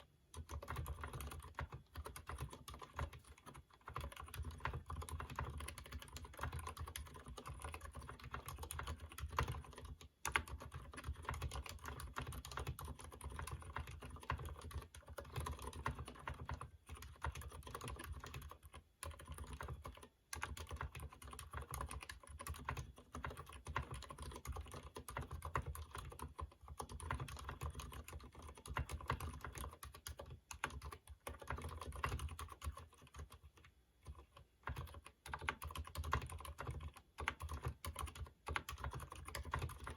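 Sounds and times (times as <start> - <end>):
muted keyboard keystrokes: 0.3 - 39.9.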